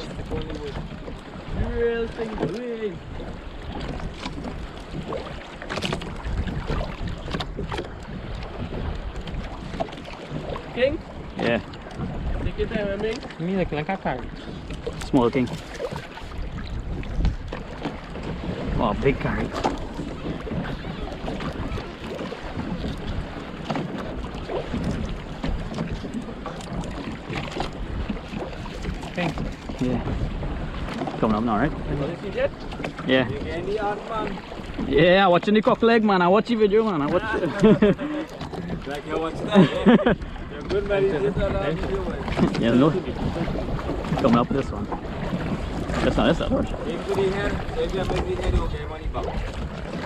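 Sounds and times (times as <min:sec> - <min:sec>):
water noise: 0:00.0 - 0:50.0
wind buffeting microphone: 0:00.0 - 0:50.0.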